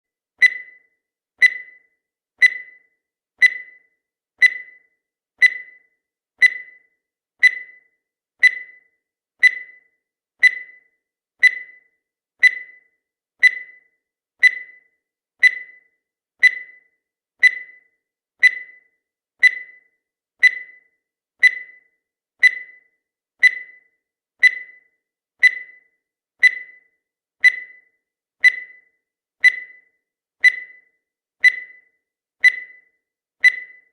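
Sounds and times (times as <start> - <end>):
timer ticking beeps: 0.4 - 33.9.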